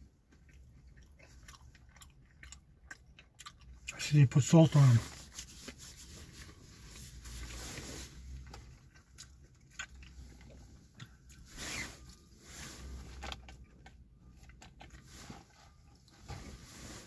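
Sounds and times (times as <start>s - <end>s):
chewing fries: 0.0s - 17.0s.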